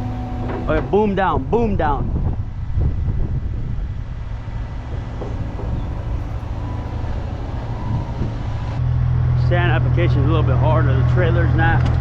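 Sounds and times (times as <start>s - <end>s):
excavator diesel engine running: 0.0s - 12.0s
low drone: 0.0s - 12.0s.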